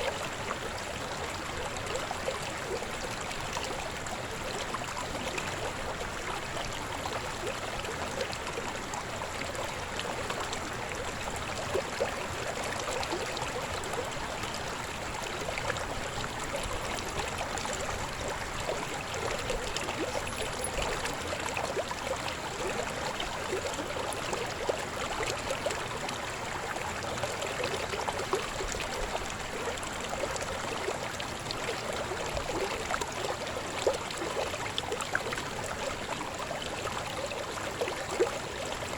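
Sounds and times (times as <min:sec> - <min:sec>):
river babbling over rocks: 0:00.0 - 0:38.9.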